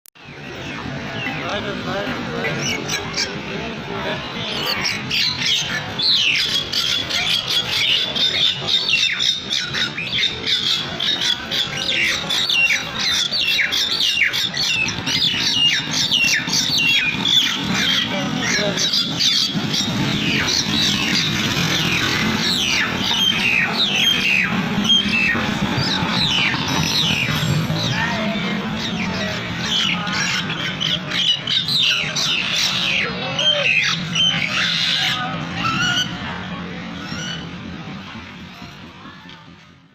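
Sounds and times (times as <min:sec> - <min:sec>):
birds chattering and squawking: 0:00.2 - 0:39.9.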